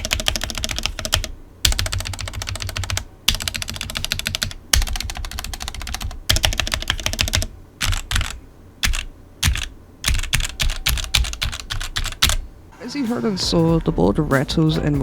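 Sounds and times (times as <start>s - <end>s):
clacky mechanical keyboard typing: 0.0s - 12.4s
keyboard rattling: 0.0s - 12.4s.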